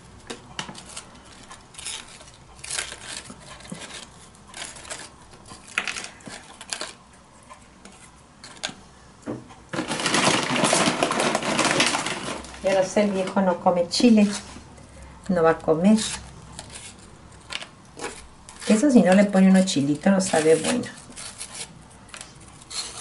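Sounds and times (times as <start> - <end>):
tortilla chips rustling and clicking: 0.0 - 8.8, 9.7 - 13.5, 14.2 - 23.0.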